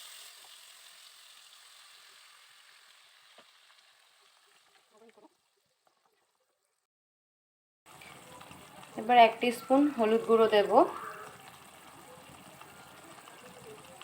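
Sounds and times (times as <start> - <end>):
food sizzling in hot oil: 0.0 - 6.2, 7.9 - 14.0.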